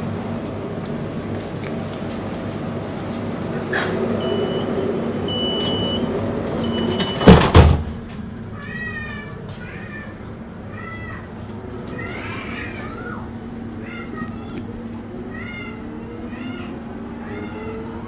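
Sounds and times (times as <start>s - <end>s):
light-rail car running: 0.0s - 18.0s.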